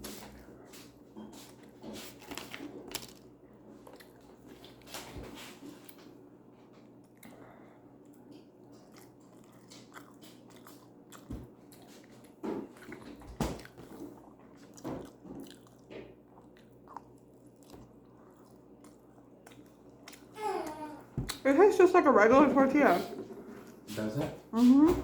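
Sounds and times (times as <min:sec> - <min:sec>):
person chewing food: 0:00.0 - 0:05.0, 0:05.6 - 0:21.4.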